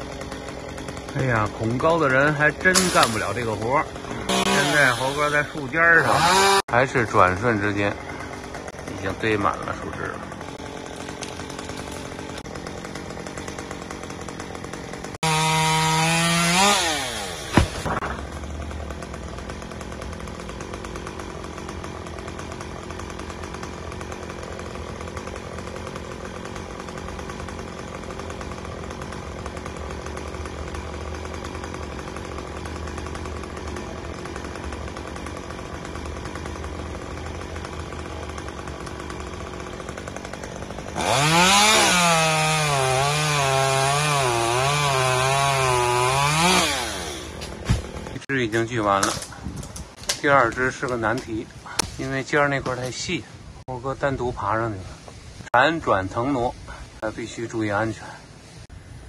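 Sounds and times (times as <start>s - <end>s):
chainsaw cutting tree limb: 0.0s - 53.2s
chainsaw idling: 0.0s - 53.6s, 54.9s - 58.8s.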